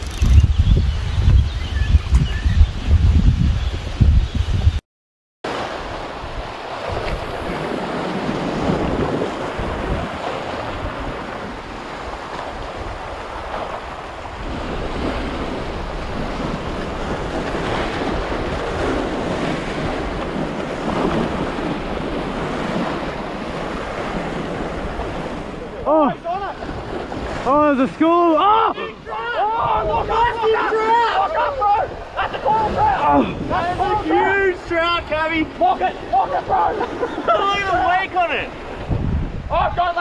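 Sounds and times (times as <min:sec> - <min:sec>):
sea waves washing over rocks: 0:05.5 - 0:40.0.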